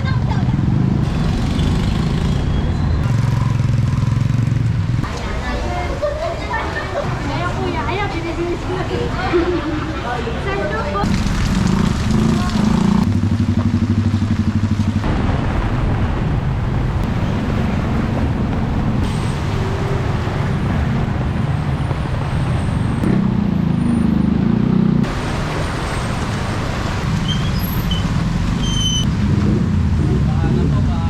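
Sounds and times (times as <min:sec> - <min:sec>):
street traffic noise: 0:00.0 - 0:31.0.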